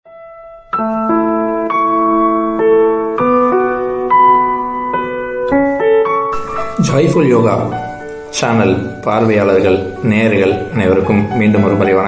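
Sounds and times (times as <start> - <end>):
slow piano-like keyboard chords: 0.1 - 12.0.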